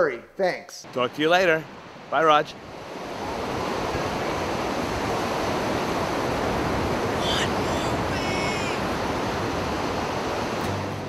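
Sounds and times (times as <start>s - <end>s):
ocean surf breaking: 0.9s - 11.0s.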